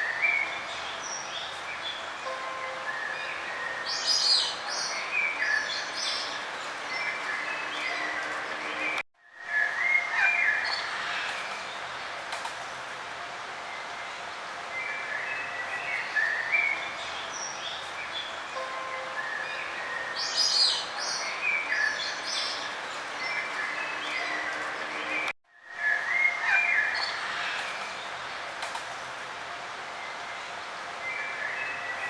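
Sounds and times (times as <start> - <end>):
outdoor background hiss: 0.0 - 32.0
songbirds chirping and trilling: 0.0 - 32.0.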